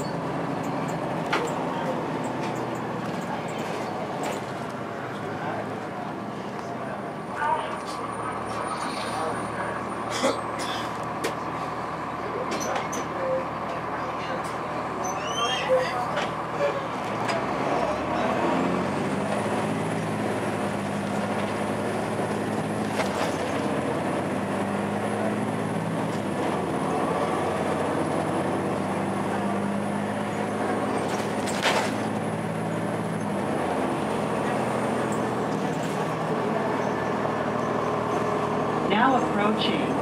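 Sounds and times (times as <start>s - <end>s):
diesel bus engine: 0.0s - 40.0s.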